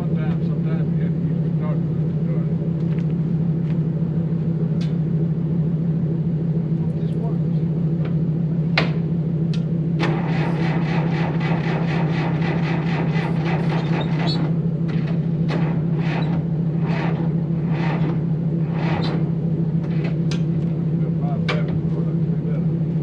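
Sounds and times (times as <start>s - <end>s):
steady engine hum: 0.0s - 23.0s.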